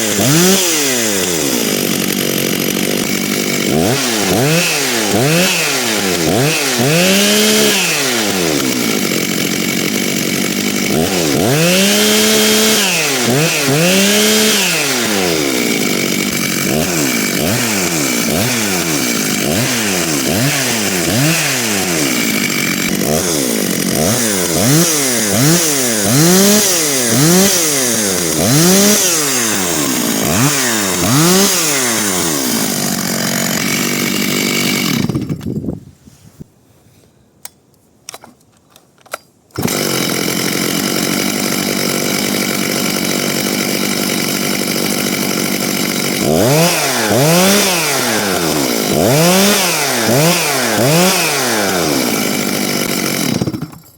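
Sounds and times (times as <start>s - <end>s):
chainsaw revving: 0.0s - 35.6s, 39.6s - 53.9s.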